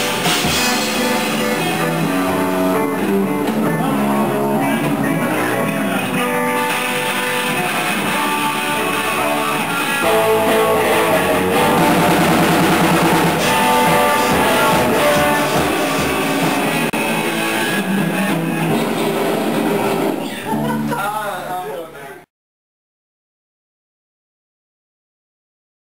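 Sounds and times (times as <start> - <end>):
rock band playing: 0.0 - 21.7.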